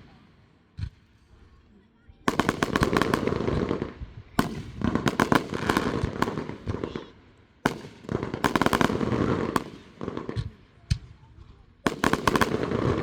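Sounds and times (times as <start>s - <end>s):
fireworks cracking and popping: 2.3s - 13.0s.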